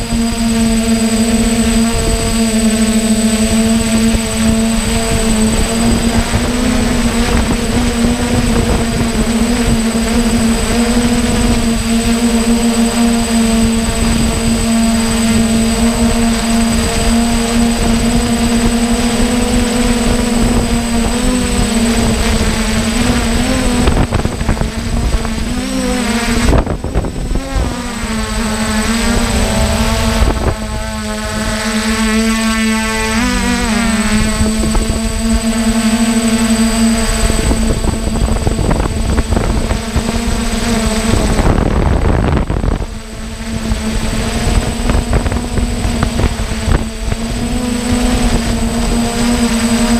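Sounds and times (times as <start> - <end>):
drone motors and propellers whining: 0.0 - 49.9.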